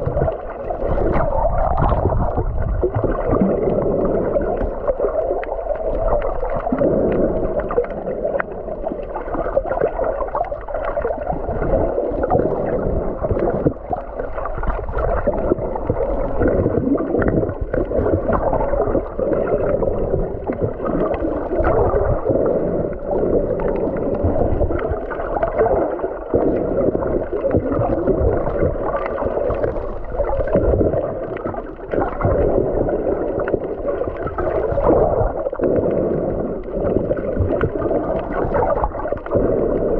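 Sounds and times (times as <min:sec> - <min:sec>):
clicks and bubbles: 0:00.0 - 0:39.9
underwater water gurgling: 0:00.0 - 0:39.9.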